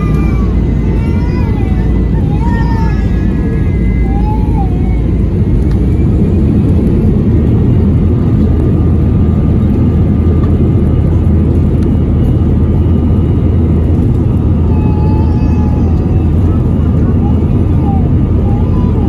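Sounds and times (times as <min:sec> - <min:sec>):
jet airliner cabin rumble: 0:00.0 - 0:19.0.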